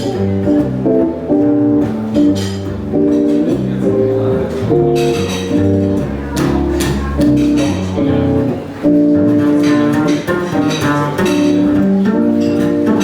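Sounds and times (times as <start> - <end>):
plucked jazz guitar: 0.0 - 13.0
walking double bass: 0.0 - 13.0.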